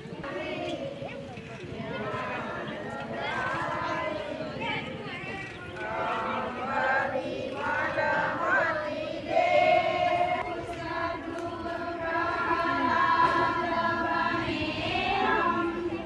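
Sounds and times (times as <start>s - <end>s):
group singing a prayer in unison: 0.0s - 5.0s, 5.6s - 16.0s.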